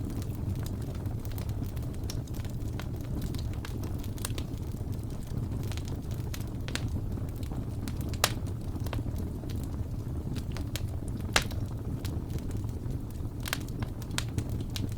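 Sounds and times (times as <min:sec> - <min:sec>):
fire crackling and popping: 0:00.0 - 0:14.9
low fire rumble: 0:00.0 - 0:14.9.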